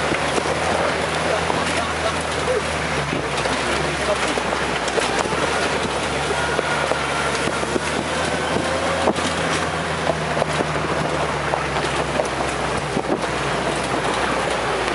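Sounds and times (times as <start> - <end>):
car engine hum: 0.0 - 14.9
tyre and wind noise: 0.0 - 14.9.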